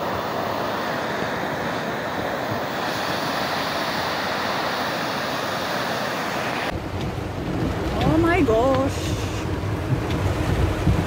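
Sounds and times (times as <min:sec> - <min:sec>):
river torrent rushing: 0:00.0 - 0:11.0.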